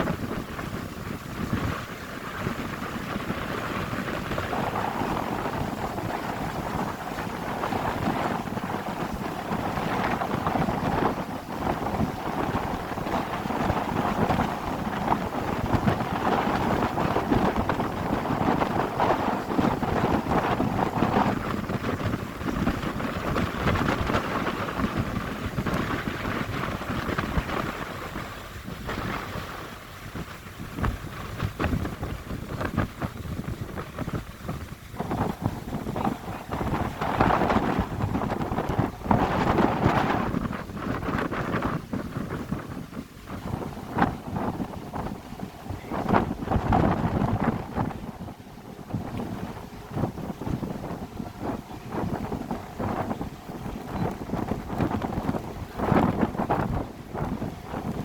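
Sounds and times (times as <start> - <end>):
boat engine rumble: 0.0 - 58.0
rush of wind and water: 0.0 - 58.0
wind buffeting microphone: 0.0 - 58.0.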